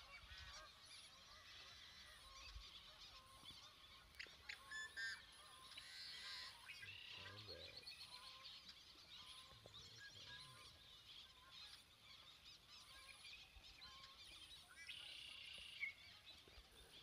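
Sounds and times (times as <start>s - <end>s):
chorus of marsh birds calling: 0.0s - 17.0s.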